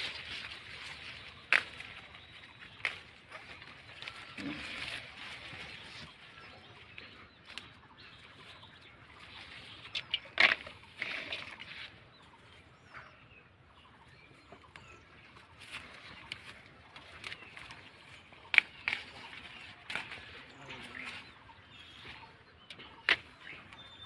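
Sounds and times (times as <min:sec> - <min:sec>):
rustling of vines and leaves: 0:00.0 - 0:12.7, 0:14.4 - 0:24.0.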